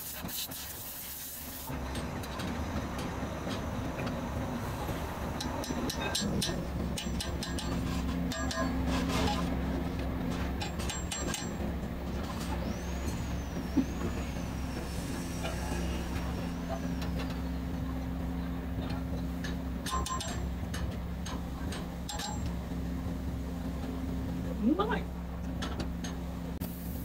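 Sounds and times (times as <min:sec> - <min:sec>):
engine humming: 0:01.7 - 0:27.0.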